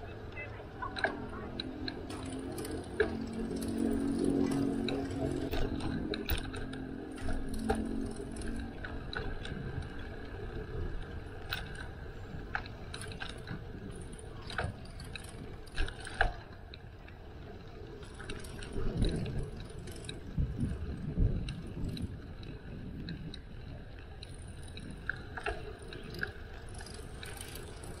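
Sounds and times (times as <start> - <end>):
bicycle clicking and rattling: 0.0 - 28.0
steady low rumble: 0.0 - 28.0.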